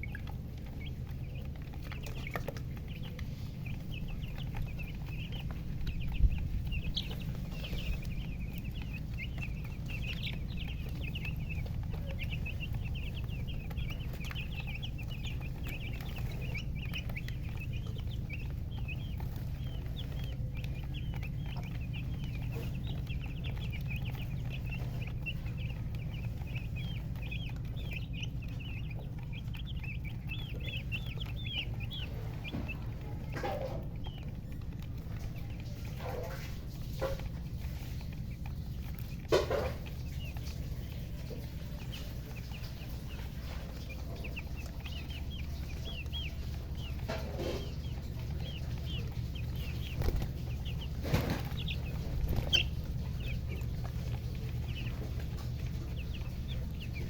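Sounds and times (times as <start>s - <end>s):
chicks peeping: 0.0s - 57.0s
steady low hum: 0.0s - 57.0s.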